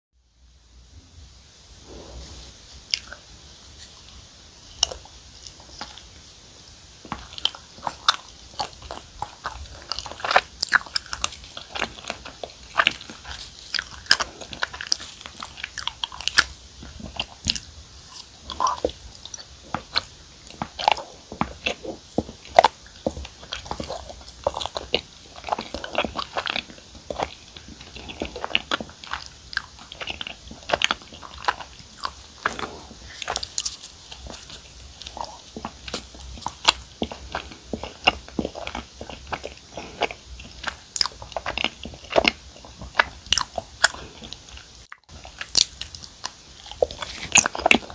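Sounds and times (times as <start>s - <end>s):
biting soft cake: 1.8s - 47.9s
wet chewing mouth clicks: 1.9s - 3.2s, 7.0s - 47.9s.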